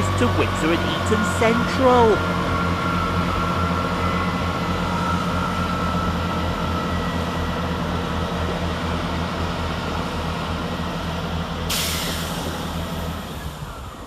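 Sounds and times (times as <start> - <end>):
diesel train engines running: 0.0 - 14.0.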